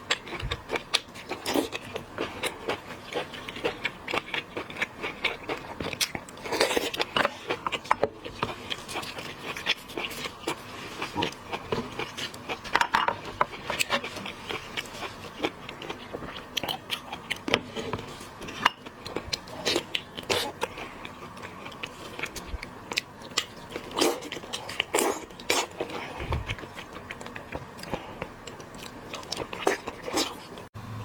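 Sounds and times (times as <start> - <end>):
person chewing shellfish: 0.0 - 30.7.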